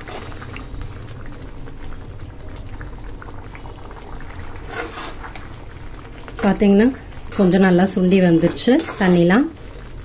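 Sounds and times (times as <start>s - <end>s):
thick gravy bubbling in a pan: 0.0s - 10.0s.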